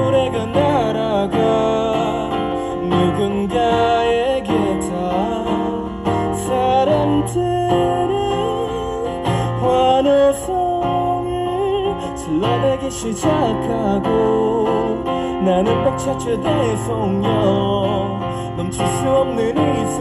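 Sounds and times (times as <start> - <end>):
man singing: 0.0 - 20.0
strummed acoustic guitar: 0.0 - 20.0.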